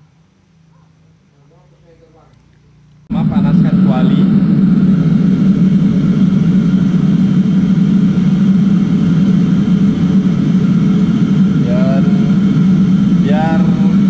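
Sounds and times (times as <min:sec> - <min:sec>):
gas burner rumbling: 0:00.0 - 0:14.0.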